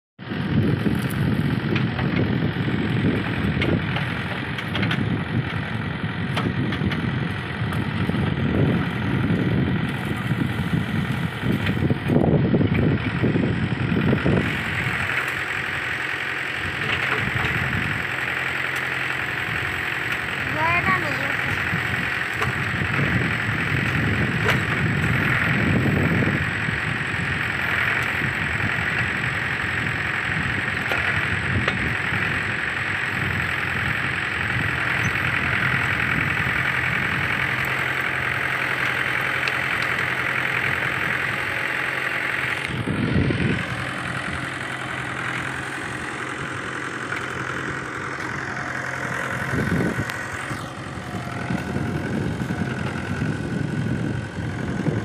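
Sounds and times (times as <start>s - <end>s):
tractor diesel engine running: 0.2s - 55.0s
backhoe digging into brush: 0.3s - 55.0s.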